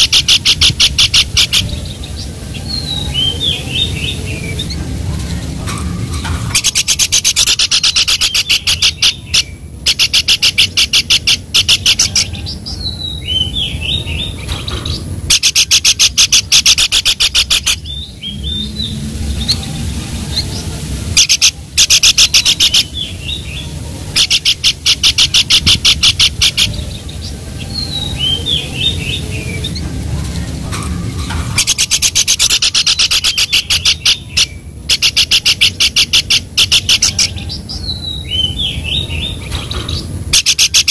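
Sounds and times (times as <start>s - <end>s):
bird rattling trills: 0.0s - 12.3s, 13.2s - 18.0s, 20.3s - 40.9s
steady low hum: 0.0s - 40.9s.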